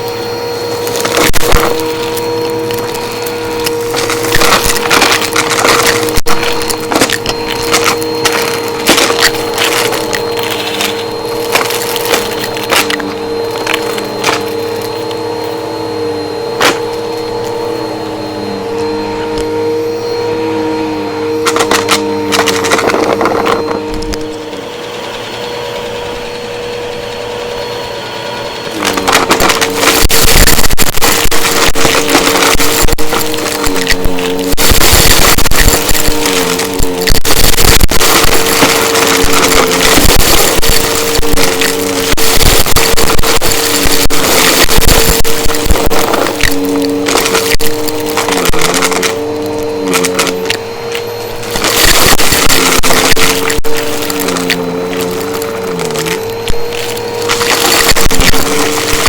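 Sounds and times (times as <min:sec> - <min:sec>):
debris crackling in vacuum: 0:00.0 - 0:24.8, 0:28.6 - 0:59.0
vacuum cleaner motor whine: 0:00.0 - 0:59.0.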